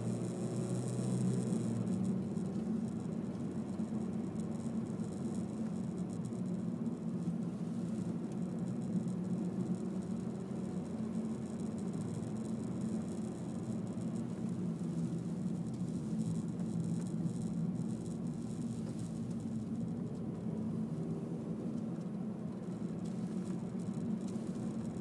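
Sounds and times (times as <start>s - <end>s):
car engine humming: 0.0s - 25.0s.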